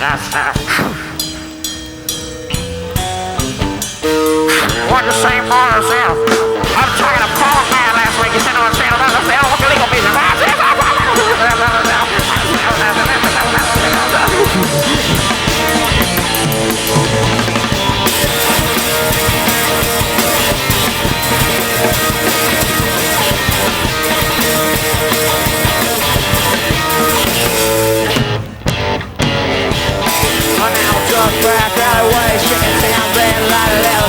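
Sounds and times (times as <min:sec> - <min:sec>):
bass guitar: 0:00.0 - 0:34.0
drum kit: 0:00.0 - 0:34.0
electric guitar: 0:00.0 - 0:34.0.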